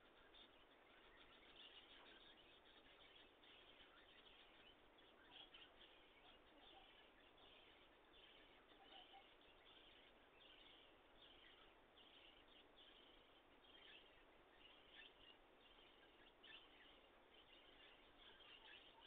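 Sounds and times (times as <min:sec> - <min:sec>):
faint high chirps: 0:00.0 - 0:19.0
faint steady hiss: 0:00.0 - 0:19.0.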